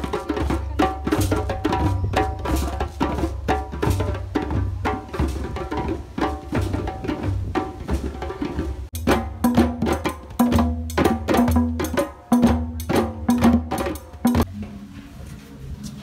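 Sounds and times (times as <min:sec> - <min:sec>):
hand drums in steady rhythm: 0:00.0 - 0:14.5.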